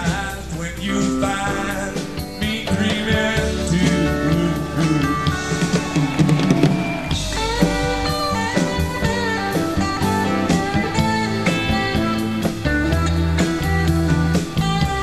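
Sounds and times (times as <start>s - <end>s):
bass and drums: 0.0s - 15.0s
electric guitar bending lines: 0.0s - 15.0s.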